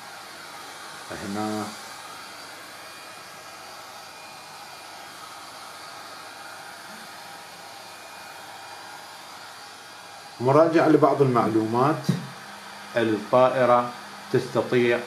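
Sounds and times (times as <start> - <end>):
steady fan hiss: 0.0 - 15.0.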